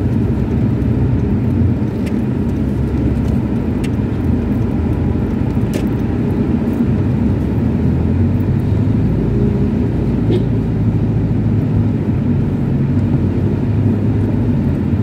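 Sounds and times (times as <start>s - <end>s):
car engine and tyres on wet road: 0.0s - 15.0s.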